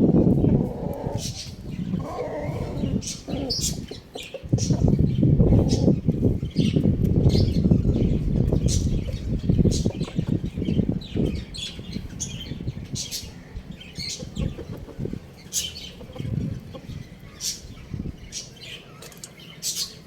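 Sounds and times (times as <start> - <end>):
birds chirping and squawking: 0.0 - 20.0.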